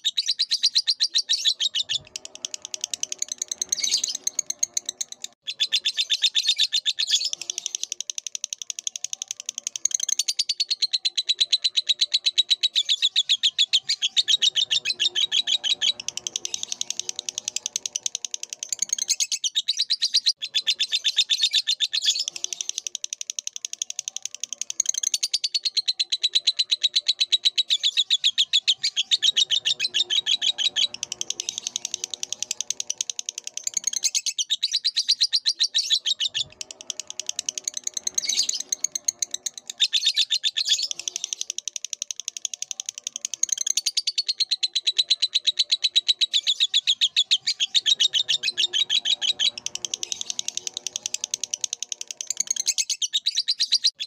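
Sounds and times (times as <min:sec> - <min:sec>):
lovebird chattering chirps: 0:00.0 - 0:54.0.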